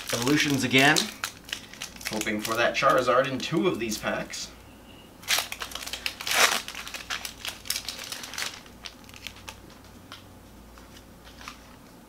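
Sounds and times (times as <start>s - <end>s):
foil wrapper crinkling: 0.0s - 4.2s, 5.2s - 11.8s.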